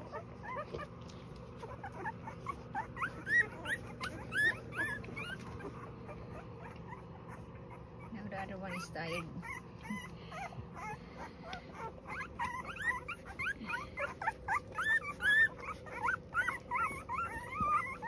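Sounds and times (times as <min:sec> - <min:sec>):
puppies squeaking and whimpering: 0:00.0 - 0:18.0.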